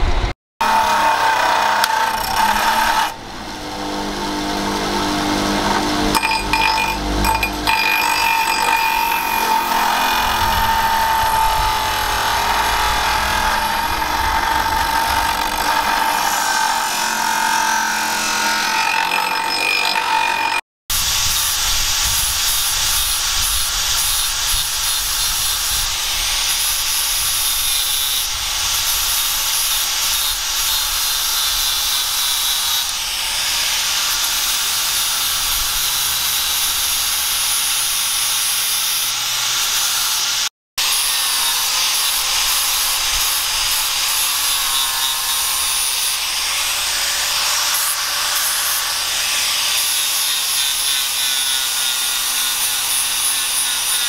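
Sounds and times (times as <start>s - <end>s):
angle grinder grinding steel: 0.6s - 54.0s.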